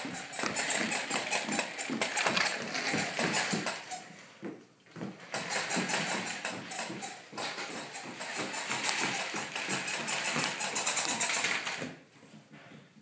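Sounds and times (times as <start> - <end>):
plastic toy clicking on wooden floor: 0.0 - 4.1, 5.2 - 11.9.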